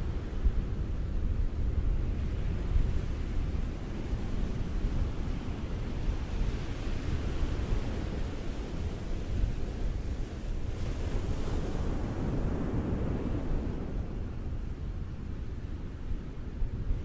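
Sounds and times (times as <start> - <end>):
low rumble of waves: 0.0 - 17.0.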